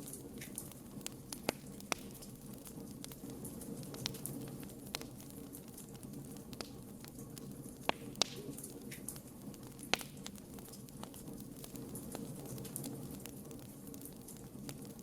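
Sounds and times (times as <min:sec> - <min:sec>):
low rush of flames: 0:00.0 - 0:15.0
wood crackling and popping: 0:00.0 - 0:15.0.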